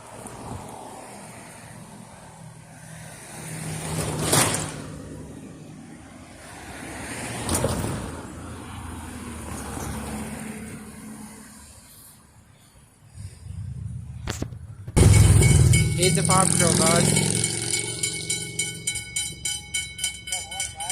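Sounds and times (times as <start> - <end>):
vehicles passing by: 0.0 - 20.9.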